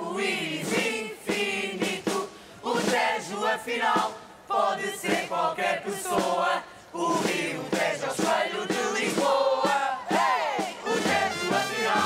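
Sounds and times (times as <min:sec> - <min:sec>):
group singing and chanting: 0:00.0 - 0:12.0.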